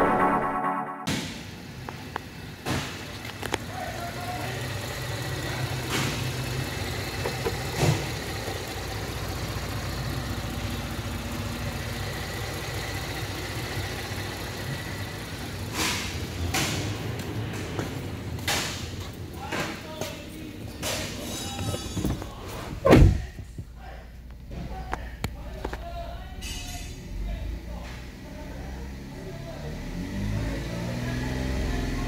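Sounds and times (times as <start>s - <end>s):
car engine idling: 1.5s - 19.5s, 21.5s - 29.8s.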